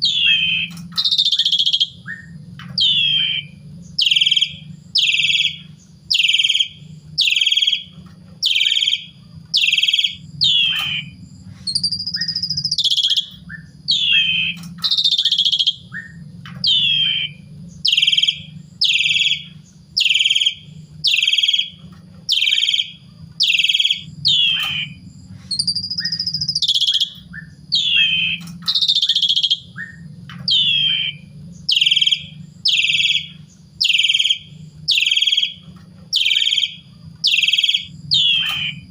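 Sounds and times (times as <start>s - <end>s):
low hum: 0.0s - 38.9s.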